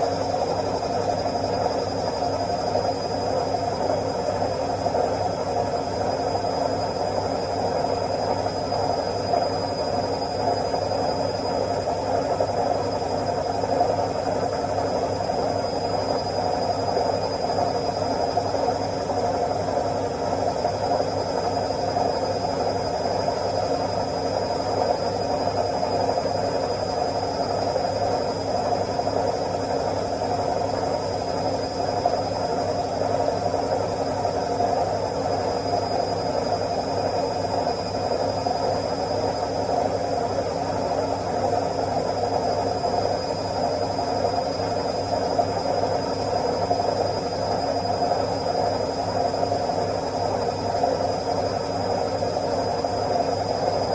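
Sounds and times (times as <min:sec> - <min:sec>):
washing machine spinning: 0:00.0 - 0:53.9.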